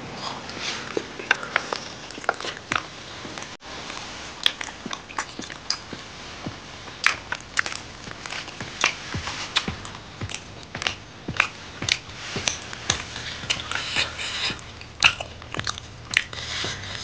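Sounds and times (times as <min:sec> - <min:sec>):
wet chewing smacks and clicks: 0:01.0 - 0:03.6, 0:04.4 - 0:17.0.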